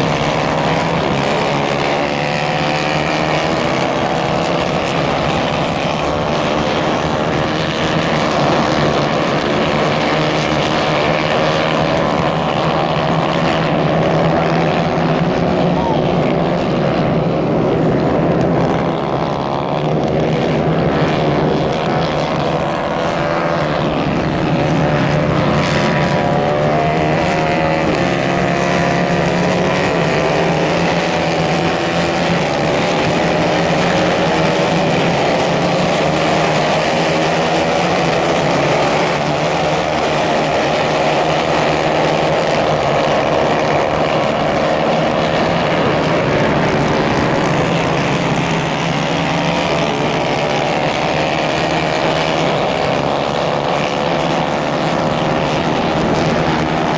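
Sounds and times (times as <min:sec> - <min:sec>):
racing kart engines buzzing: 0:00.0 - 0:56.9.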